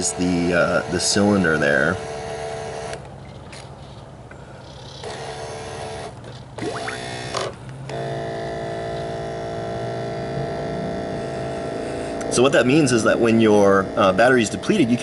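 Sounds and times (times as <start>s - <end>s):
small electric pump motor whining: 0.0s - 4.0s, 4.6s - 15.0s.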